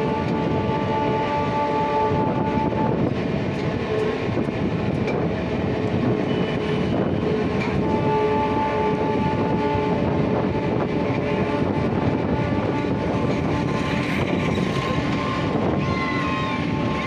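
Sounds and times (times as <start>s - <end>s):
train coaches rumbling and rattling: 0.0s - 17.0s.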